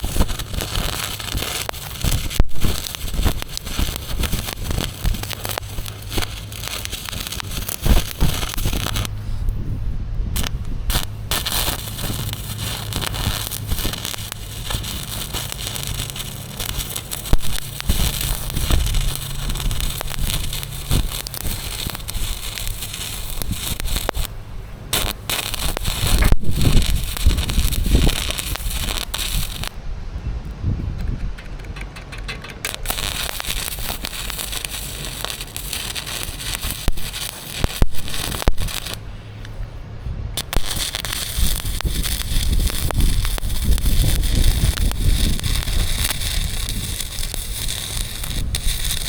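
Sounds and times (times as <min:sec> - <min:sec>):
arc welder crackling: 0:00.0 - 0:09.7, 0:10.4 - 0:29.8, 0:31.0 - 0:39.8, 0:40.4 - 0:49.0
low wind rumble: 0:00.0 - 0:49.0.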